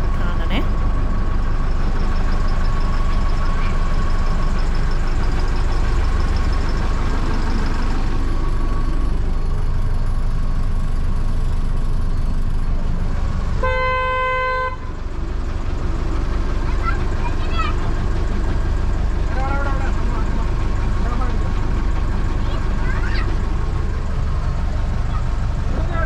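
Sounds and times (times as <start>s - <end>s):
motorboat engine drone: 0.0s - 26.0s.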